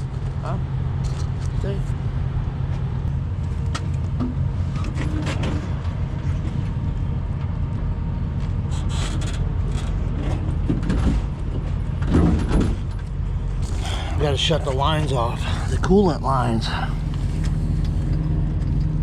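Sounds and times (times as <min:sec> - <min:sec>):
diesel truck engines idling: 0:00.0 - 0:19.0.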